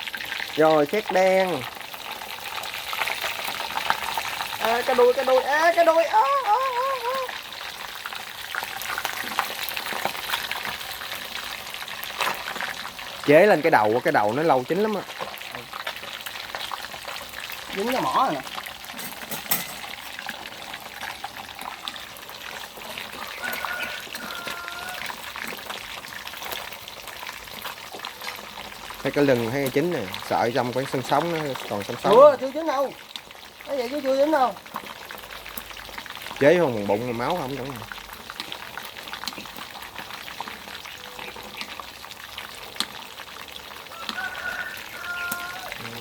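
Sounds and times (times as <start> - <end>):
fish sizzling in hot oil: 0.0 - 46.0
oil trickling into pan: 0.0 - 46.0.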